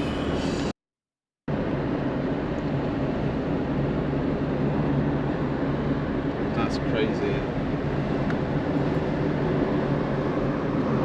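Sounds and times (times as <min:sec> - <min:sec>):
car engine hum and road rumble: 0:00.0 - 0:00.7, 0:01.5 - 0:11.0.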